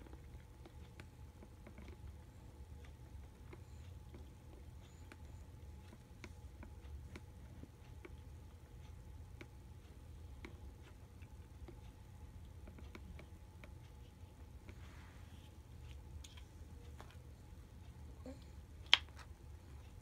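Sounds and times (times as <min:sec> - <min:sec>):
faint steady tone: 0:00.0 - 0:20.0
low steady hum: 0:00.0 - 0:20.0.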